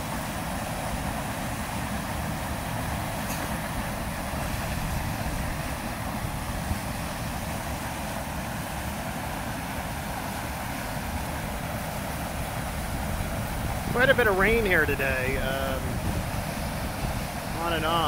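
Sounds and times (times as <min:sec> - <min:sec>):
floodwater rushing through outlet: 0:00.0 - 0:18.0.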